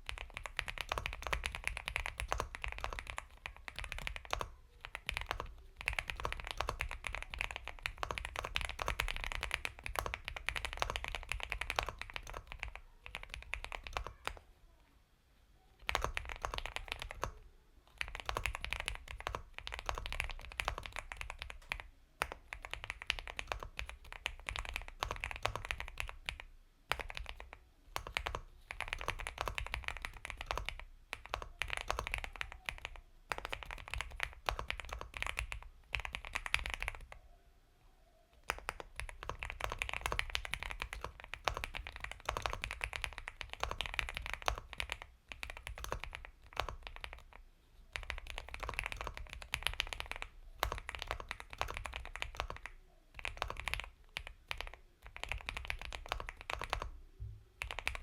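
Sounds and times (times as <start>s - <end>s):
mechanical keyboard typing: 0.0s - 14.4s, 15.8s - 37.2s, 38.4s - 57.0s, 57.6s - 58.0s.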